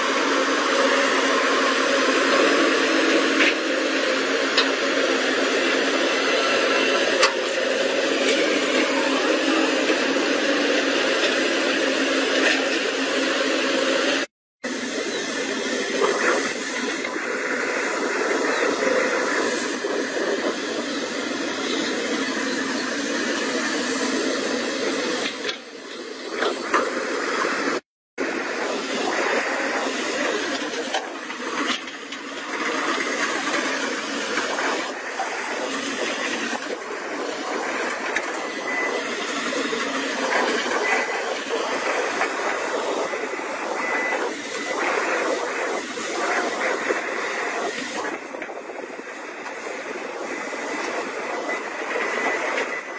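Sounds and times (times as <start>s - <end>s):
excavator engine and hydraulics under load: 0.0s - 52.9s.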